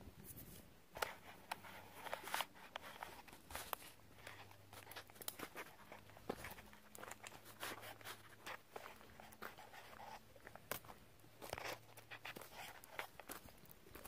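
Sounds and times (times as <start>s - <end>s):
footsteps crunching on rough ground: 0.3s - 14.0s
scattered clicks and rustles: 0.3s - 14.0s.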